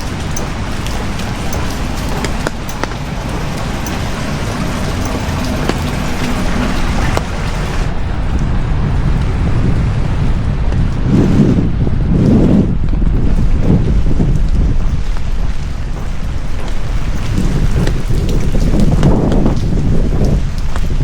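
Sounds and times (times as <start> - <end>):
heavy rain falling: 0.0 - 21.0
low rumble: 0.0 - 21.0.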